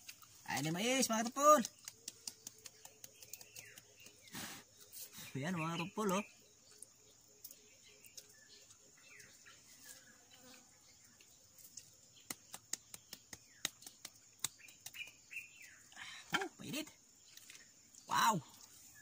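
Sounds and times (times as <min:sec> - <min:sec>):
faint bird chirps: 0:01.6 - 0:19.0.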